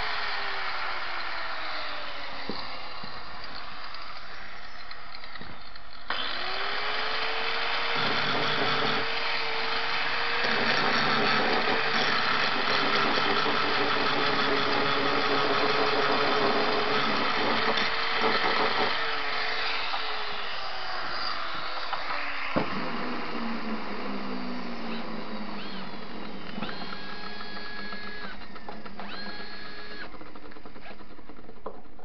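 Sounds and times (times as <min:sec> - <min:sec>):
angle grinder grinding steel: 0:00.0 - 0:32.0.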